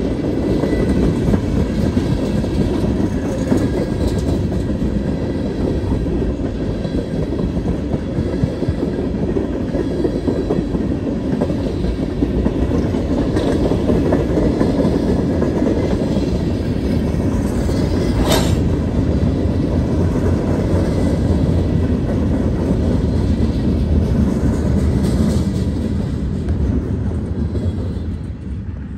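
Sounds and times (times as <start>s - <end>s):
wheel clatter on rails: 0.0s - 28.6s
freight train rolling past: 0.0s - 28.9s.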